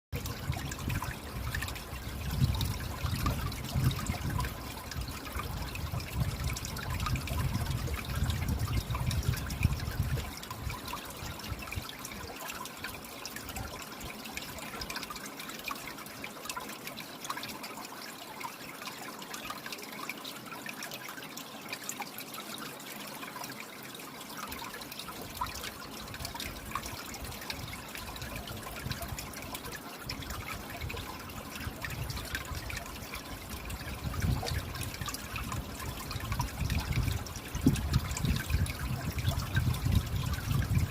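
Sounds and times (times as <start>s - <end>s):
water drips and splashes: 0.2s - 40.9s
water trickling: 0.2s - 40.9s.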